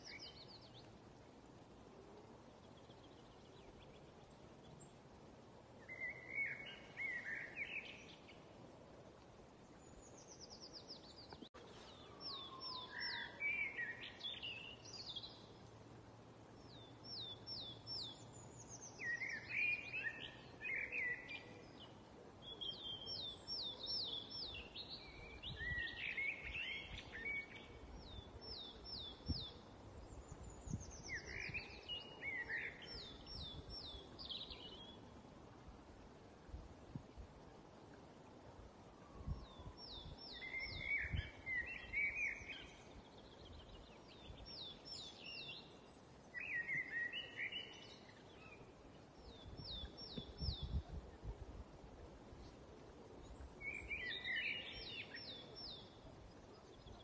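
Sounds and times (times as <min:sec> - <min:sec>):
faint outdoor background: 0:00.0 - 0:57.0
songbirds chirping: 0:00.0 - 0:57.0.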